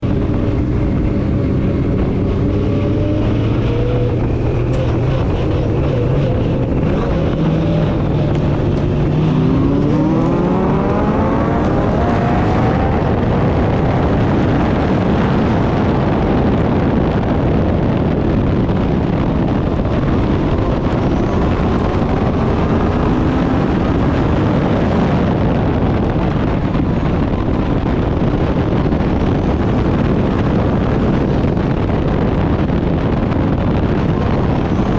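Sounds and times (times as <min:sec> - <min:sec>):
racing car engine revving: 0:01.8 - 0:16.3, 0:17.2 - 0:34.9.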